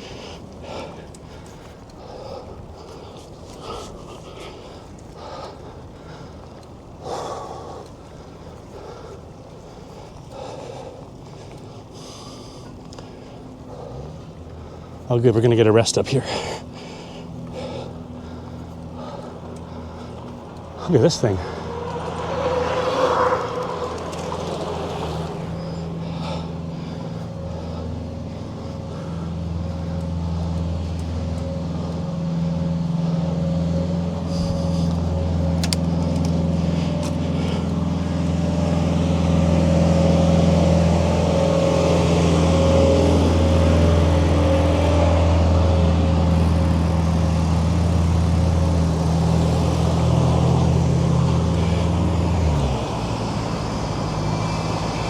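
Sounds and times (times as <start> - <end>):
vehicle engine humming: 0.0 - 55.0.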